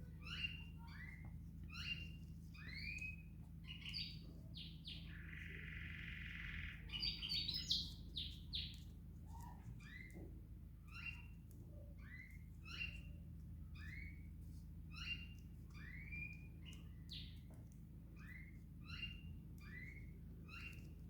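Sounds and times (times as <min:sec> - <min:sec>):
songbird chirping: 0:00.0 - 0:21.0
steady low hum: 0:00.0 - 0:21.0.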